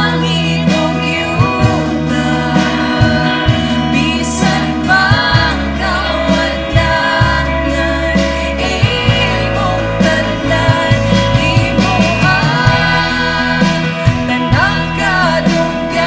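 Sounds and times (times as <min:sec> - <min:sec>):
worship music with singing: 0:00.0 - 0:16.0.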